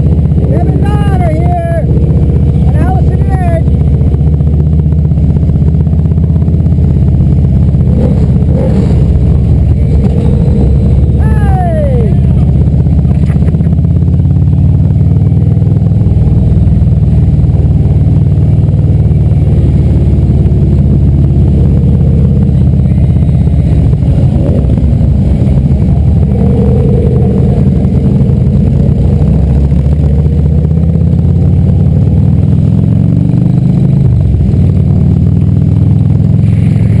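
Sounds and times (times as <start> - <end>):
motorcycle engines rumbling: 0.0 - 37.0.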